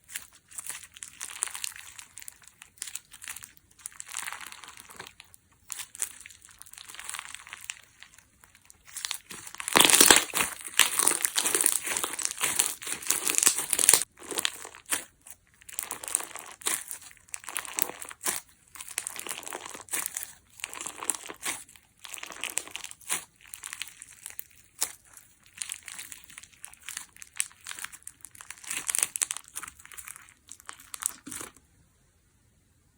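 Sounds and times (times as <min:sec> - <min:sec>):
slime crackling and popping: 0:00.0 - 0:31.6.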